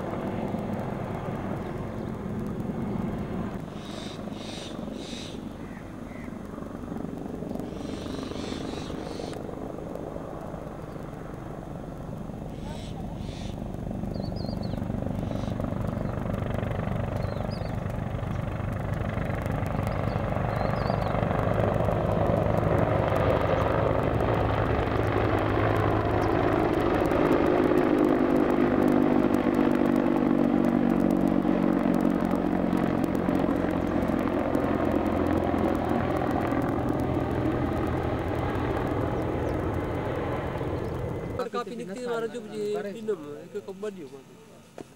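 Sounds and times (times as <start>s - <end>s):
helicopter flying past: 0.0s - 44.9s.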